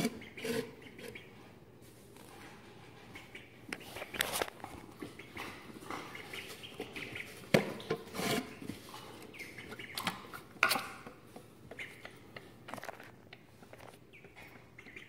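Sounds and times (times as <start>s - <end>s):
duckling peeps: 0.0s - 1.4s, 3.0s - 11.0s, 11.7s - 15.0s.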